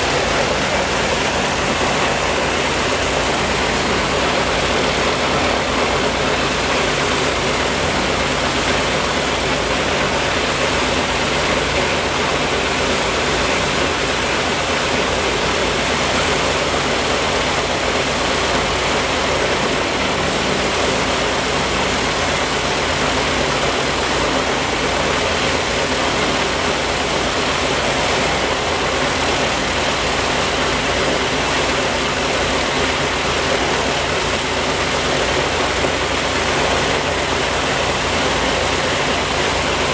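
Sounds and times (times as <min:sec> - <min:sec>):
propeller rushing noise: 0:00.0 - 0:39.9
radial aircraft engine droning: 0:00.0 - 0:39.9.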